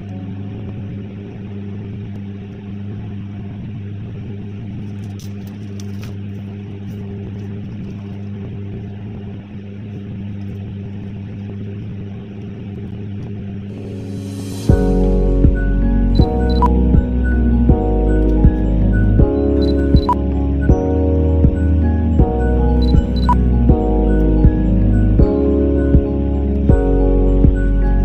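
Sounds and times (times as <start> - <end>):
music: 0.0 - 9.2, 11.6 - 28.0
low mechanical hum: 0.0 - 28.0.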